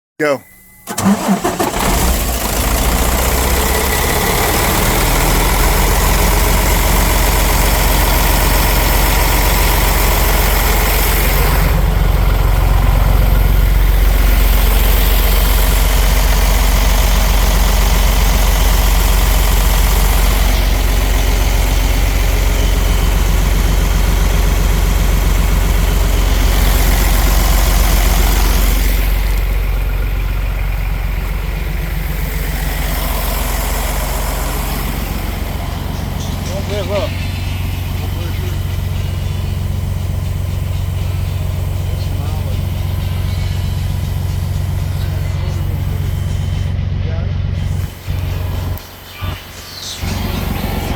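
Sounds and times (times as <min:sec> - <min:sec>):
diesel truck engine idling: 0:00.2 - 0:50.9.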